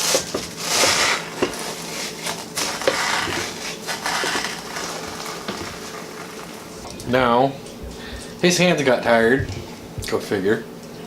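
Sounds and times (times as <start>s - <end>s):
spatula stirring sticky cereal: 0.0s - 10.0s.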